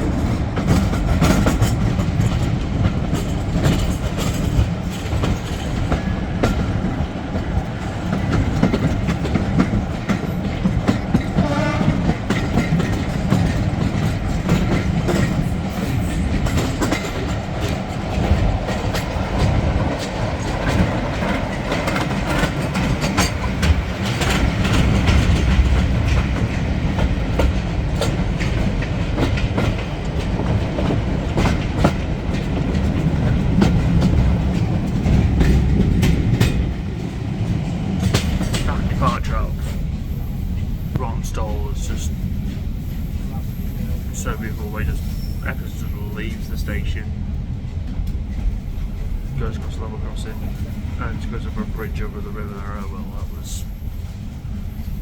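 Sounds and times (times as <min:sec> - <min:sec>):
train rumbling: 0:00.0 - 0:55.0
wheels clickety-clack over rail joints: 0:00.0 - 0:55.0.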